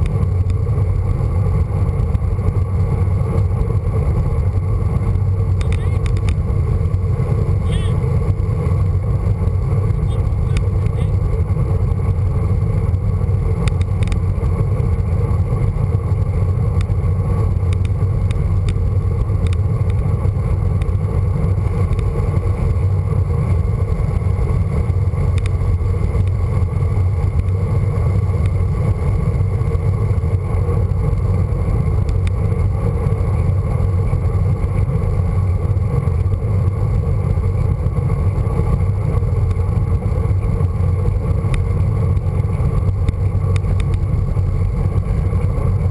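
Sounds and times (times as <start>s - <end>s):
bicycle road noise on tarmac: 0.0s - 45.9s.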